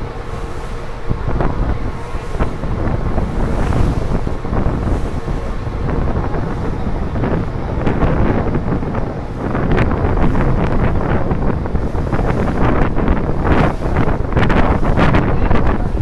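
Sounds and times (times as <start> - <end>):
boat running noise: 0.0 - 16.0
wind buffeting microphone: 0.0 - 16.0.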